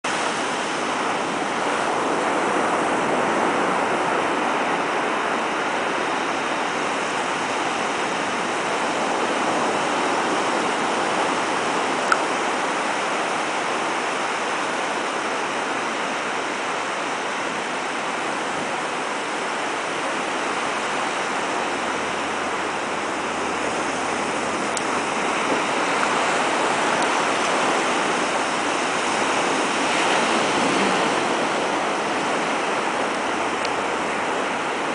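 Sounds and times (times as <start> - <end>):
ocean surf breaking on beach: 0.1 - 34.9.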